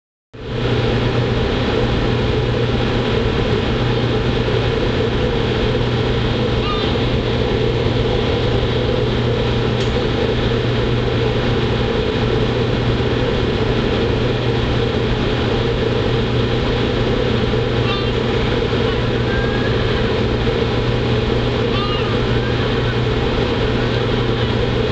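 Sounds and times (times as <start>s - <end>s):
ship engines droning: 0.4s - 24.9s.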